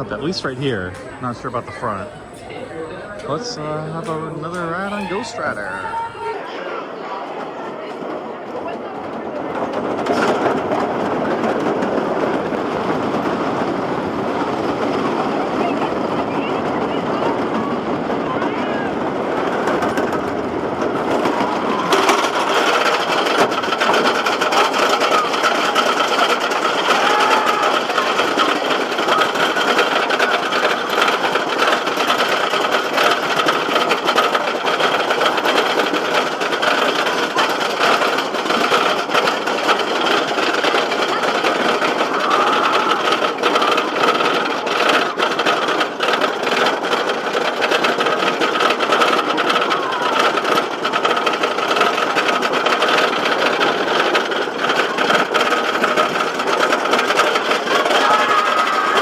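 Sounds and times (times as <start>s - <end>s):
roller coaster clattering on track: 0.0s - 59.0s.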